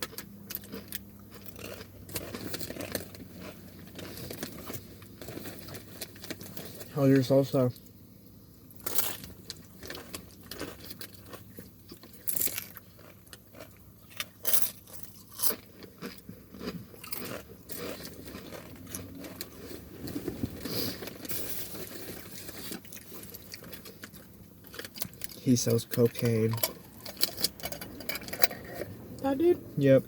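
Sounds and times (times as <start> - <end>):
chips crunching: 0.0 - 6.9, 8.8 - 28.0
soft chewing: 0.0 - 6.9, 7.8 - 29.0.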